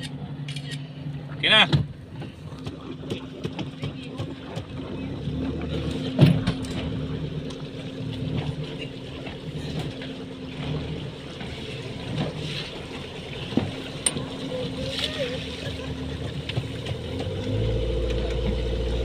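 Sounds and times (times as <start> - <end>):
motorboat engine droning: 0.0 - 19.0
water rushing: 0.0 - 19.0.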